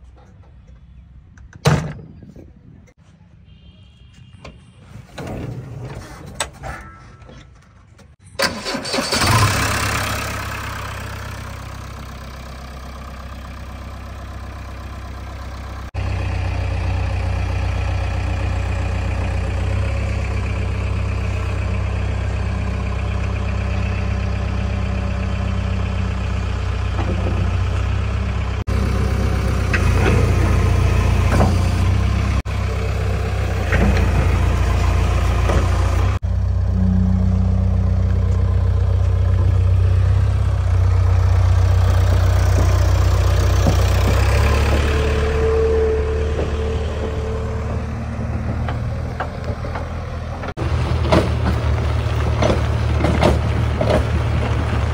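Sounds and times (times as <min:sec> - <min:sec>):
diesel engine idling: 0:08.4 - 0:54.9.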